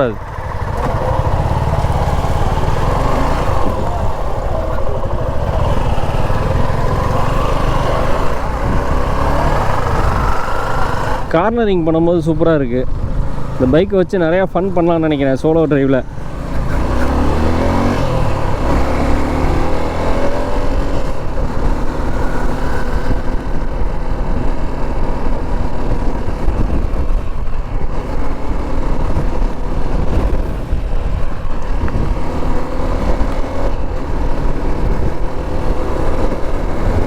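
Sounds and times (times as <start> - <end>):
motorcycle engine: 0.0 - 37.0
wind rush on microphone: 0.0 - 37.0.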